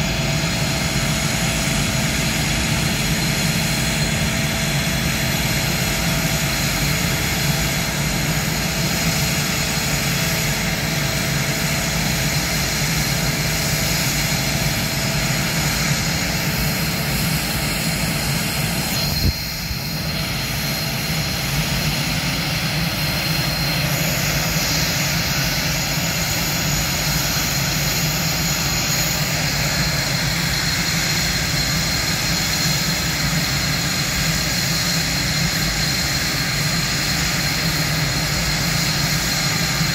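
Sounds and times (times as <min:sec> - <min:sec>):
high-pitched turbine whine: 0:00.0 - 0:39.9
jet engines idling: 0:00.0 - 0:39.9.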